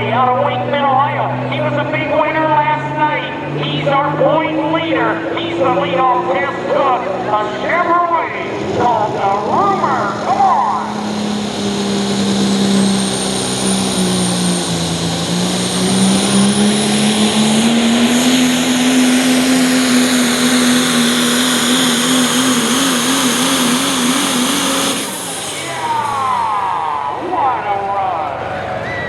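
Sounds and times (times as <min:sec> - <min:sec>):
diesel pickup engine at full throttle: 0:00.0 - 0:29.0.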